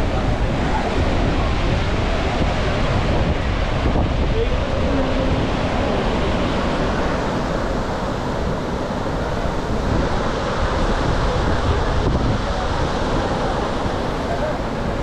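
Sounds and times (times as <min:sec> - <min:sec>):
floodwater rushing in a torrent: 0:00.0 - 0:15.0
wind buffeting microphone: 0:00.0 - 0:15.0.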